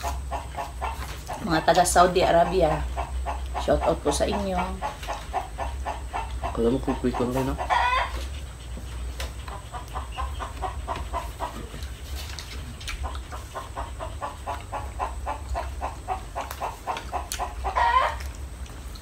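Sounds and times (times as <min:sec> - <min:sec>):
chicken clucking: 0:00.0 - 0:19.0.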